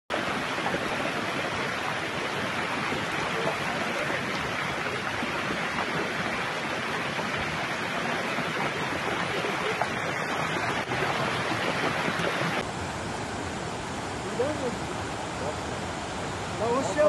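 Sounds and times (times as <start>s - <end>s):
floodwater rushing: 0.1s - 17.0s.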